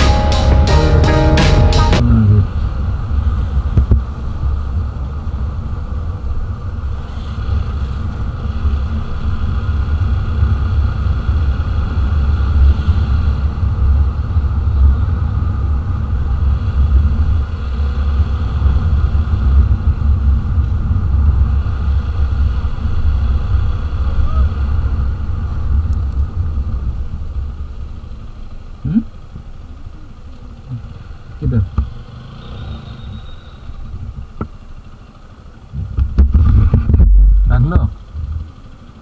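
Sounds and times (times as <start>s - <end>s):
motorcycle engine rumble: 0.0s - 39.0s.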